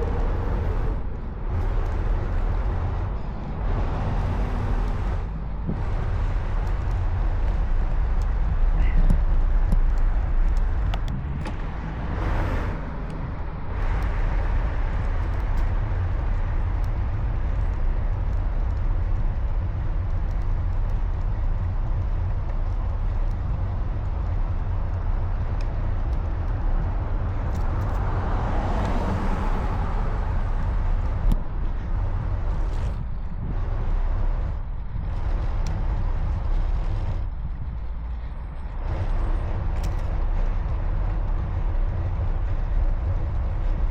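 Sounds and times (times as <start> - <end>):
road traffic noise: 0.0 - 43.9
vehicles passing: 0.0 - 43.9
wind rumble on microphone: 0.0 - 43.9.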